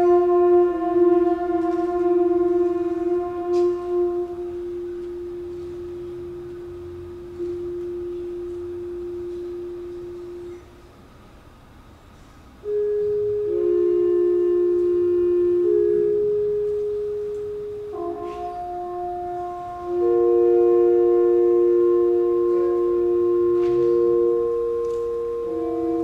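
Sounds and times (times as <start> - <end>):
wind instruments holding soft notes: 0.0 - 11.3, 12.1 - 26.0.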